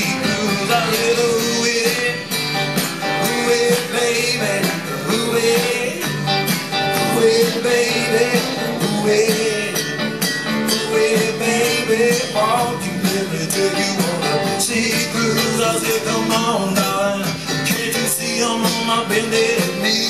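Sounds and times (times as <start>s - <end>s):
live rock and roll band: 0.0s - 20.0s.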